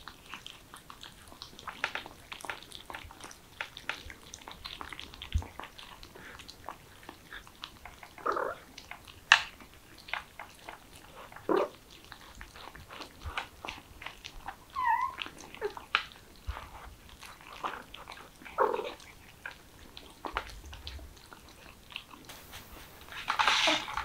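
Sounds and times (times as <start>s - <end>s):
cats chewing and crunching: 0.0s - 24.0s.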